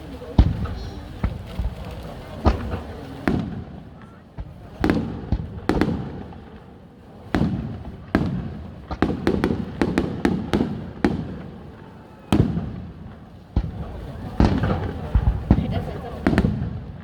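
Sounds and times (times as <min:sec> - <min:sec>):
fireworks bangs with echo: 0:00.0 - 0:17.0
fireworks crackling: 0:00.0 - 0:17.0.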